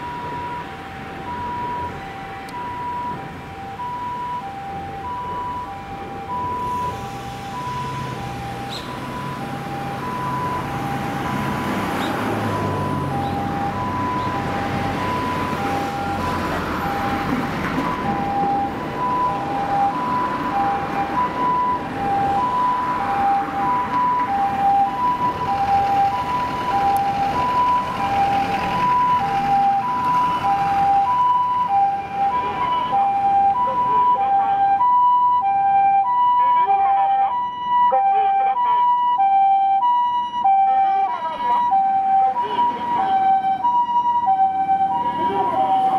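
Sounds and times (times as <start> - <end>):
road traffic noise: 0.0 - 45.9
two-tone ambulance siren: 0.0 - 45.9.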